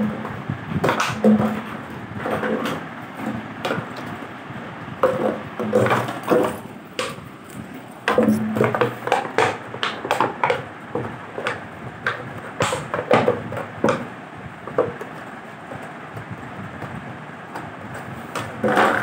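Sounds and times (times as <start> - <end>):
plastic bottle knocking and crinkling: 0.0 - 4.2, 5.0 - 19.0.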